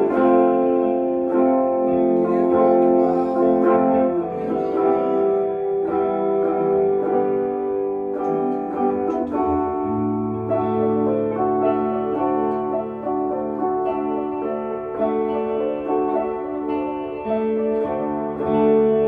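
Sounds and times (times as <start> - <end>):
electric guitars playing: 0.0 - 19.0.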